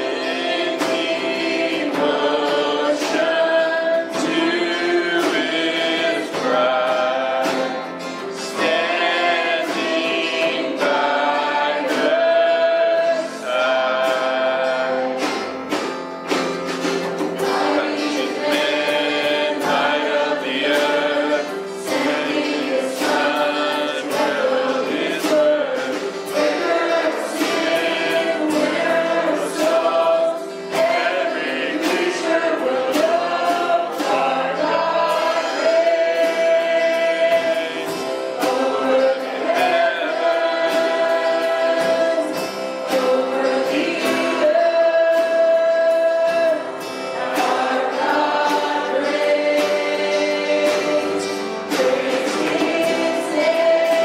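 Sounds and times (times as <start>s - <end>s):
acoustic guitar: 0.0s - 54.0s
drums: 0.0s - 54.0s
singers in harmony: 0.0s - 54.0s.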